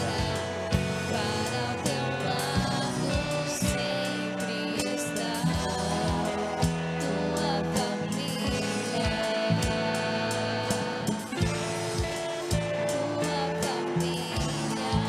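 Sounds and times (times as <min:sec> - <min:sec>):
keyboard: 0:00.0 - 0:15.0
live band playing: 0:00.0 - 0:15.0
person singing: 0:00.0 - 0:15.0
strummed guitar: 0:00.0 - 0:15.0.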